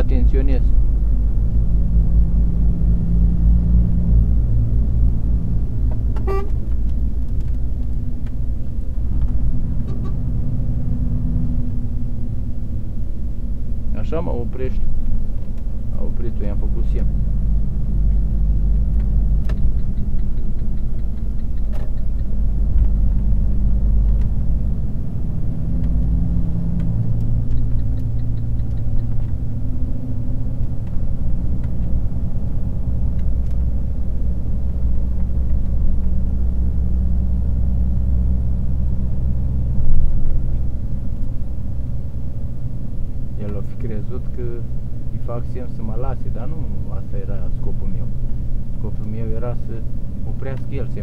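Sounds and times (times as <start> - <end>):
car engine inside cabin: 0.0 - 51.0
road rumble: 0.0 - 51.0.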